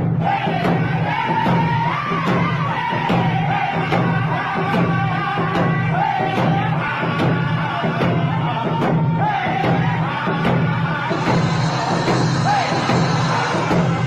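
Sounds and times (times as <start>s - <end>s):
men singing together: 0.0s - 14.0s
frame drums beating: 0.6s - 14.0s.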